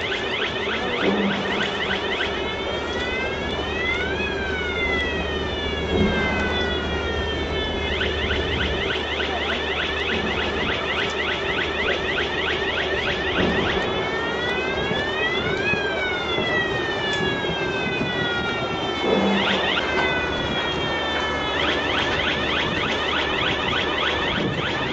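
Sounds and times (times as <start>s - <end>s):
electronic warning siren: 0.0s - 24.9s.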